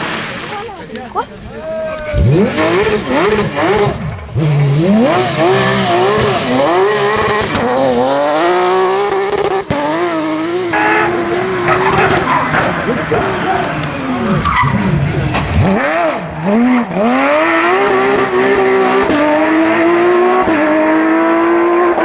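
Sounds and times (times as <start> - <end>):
rally car engine revving: 0.0 - 0.7, 1.4 - 22.0.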